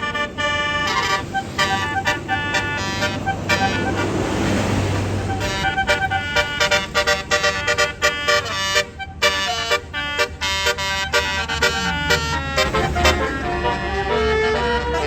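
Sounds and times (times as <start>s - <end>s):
bus musical horn playing a tune: 0.0s - 15.0s.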